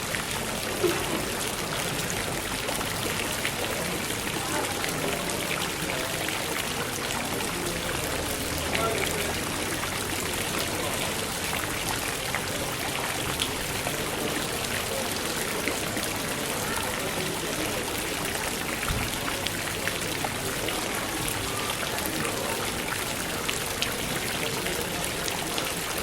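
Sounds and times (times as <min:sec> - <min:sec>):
crowd murmur: 0:00.0 - 0:26.0
indoor fountain splashing: 0:00.0 - 0:26.0.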